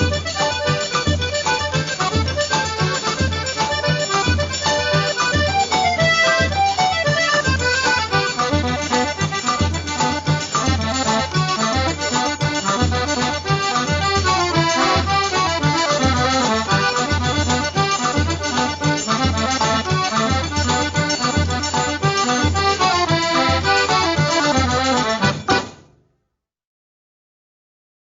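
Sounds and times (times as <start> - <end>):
accordion dance music: 0.0 - 25.9.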